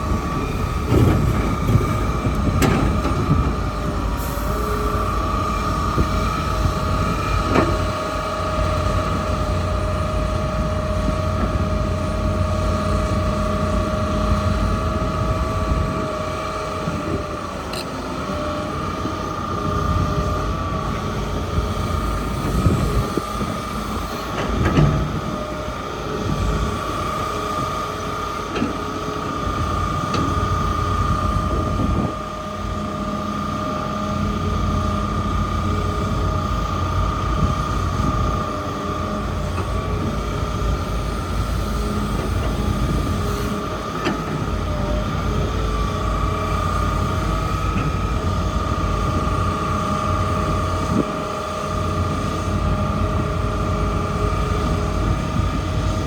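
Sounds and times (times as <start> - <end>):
excavator engine rumble: 0.0 - 56.0.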